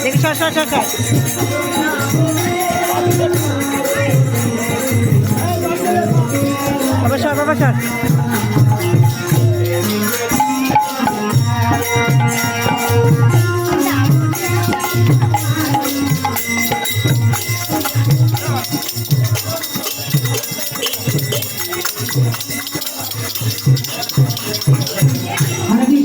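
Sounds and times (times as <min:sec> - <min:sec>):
music with steady beat: 0:00.0 - 0:26.0
rattling shaker percussion: 0:00.0 - 0:26.0.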